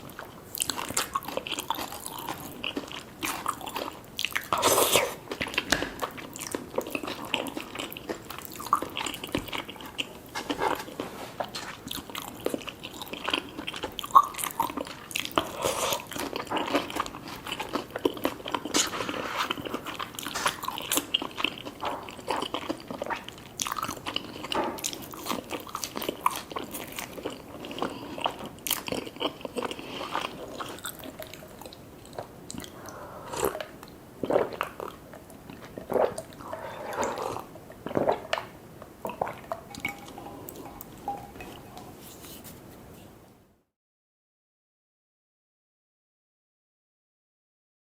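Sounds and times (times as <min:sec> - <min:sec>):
person chewing crispy food: 0:00.0 - 0:38.4.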